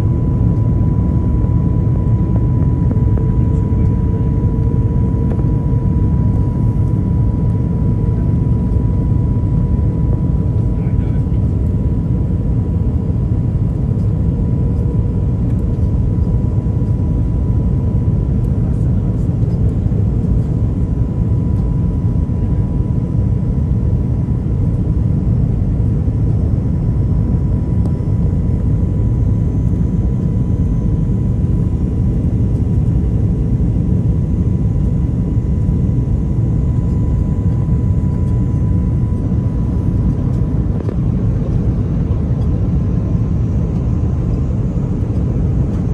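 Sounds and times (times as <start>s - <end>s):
aircraft cabin engine rumble: 0.0s - 45.9s
faint constant whine: 0.0s - 45.9s.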